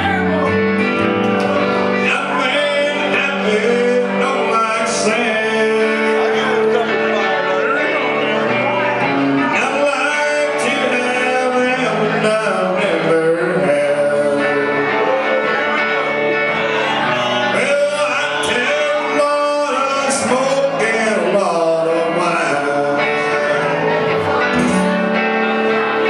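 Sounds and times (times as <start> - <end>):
electric guitar: 0.0 - 26.0
live country band playing: 0.0 - 26.0
man singing: 1.6 - 26.0.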